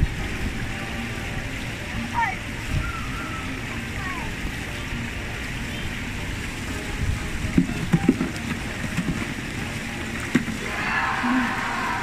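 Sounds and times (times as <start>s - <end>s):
water running down flume: 0.0s - 12.0s.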